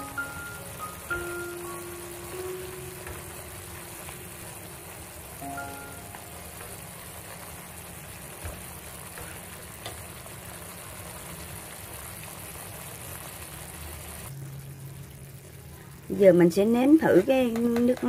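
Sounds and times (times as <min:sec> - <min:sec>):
sauce bubbling and sizzling: 0:00.0 - 0:18.0.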